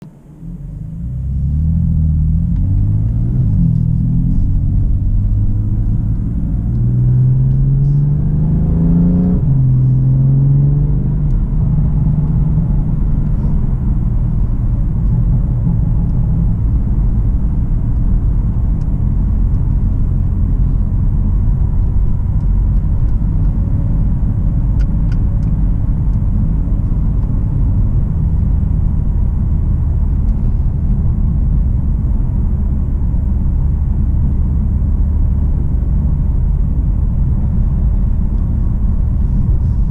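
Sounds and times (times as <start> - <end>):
car engine accelerating: 0.0 - 39.9
low rumble: 0.0 - 39.9.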